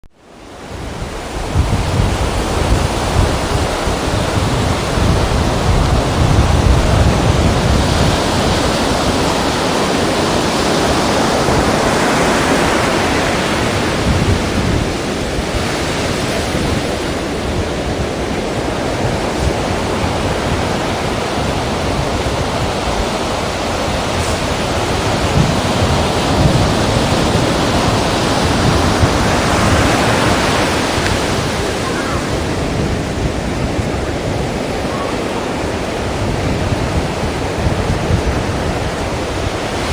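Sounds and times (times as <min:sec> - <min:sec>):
ocean surf breaking: 0:00.2 - 0:39.9.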